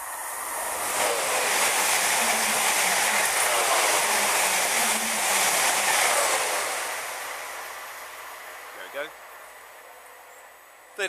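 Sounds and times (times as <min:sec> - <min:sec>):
train wheels rushing on rails: 0:00.0 - 0:11.0.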